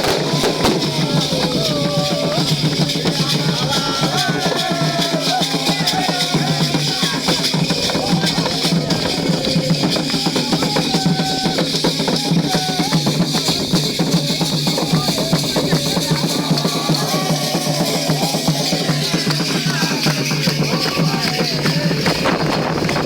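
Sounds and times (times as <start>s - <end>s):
hand drums playing fast rhythm: 0.0s - 23.0s
voices singing: 0.0s - 23.0s.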